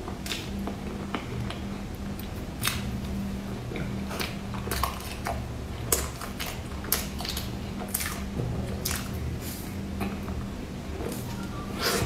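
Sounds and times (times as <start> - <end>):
chewing crumbly pastry: 0.0 - 12.0
low steady hum: 0.0 - 12.0.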